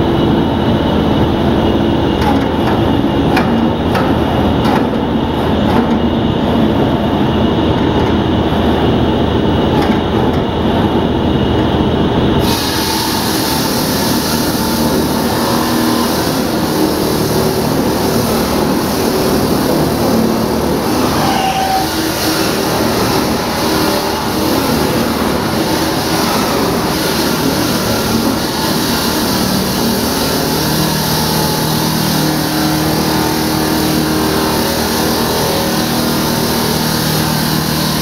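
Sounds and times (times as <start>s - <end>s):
machine noise with low rumble: 0.0s - 38.0s.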